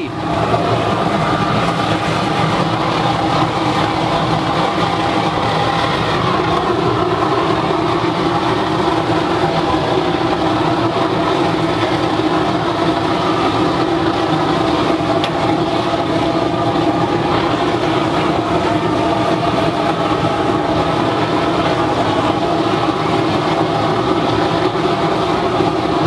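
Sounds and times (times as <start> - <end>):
oil burner flame rumbling: 0.0 - 26.0.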